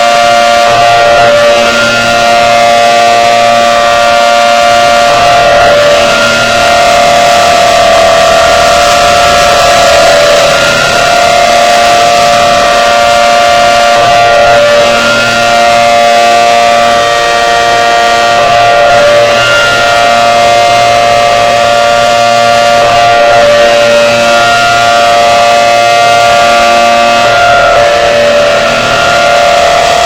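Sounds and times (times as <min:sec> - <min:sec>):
warning siren steady tone: 0:00.0 - 0:30.0.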